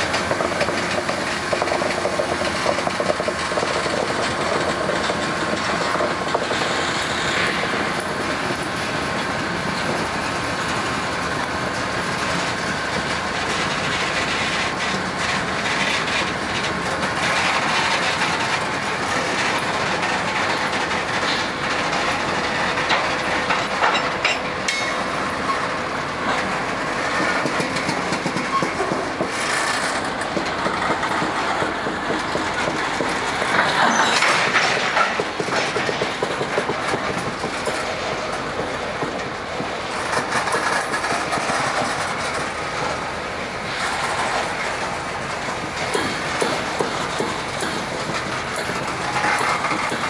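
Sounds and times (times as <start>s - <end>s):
freight train wheels rumbling: 0.0s - 50.0s
wheels clanking over rail joints: 0.0s - 50.0s.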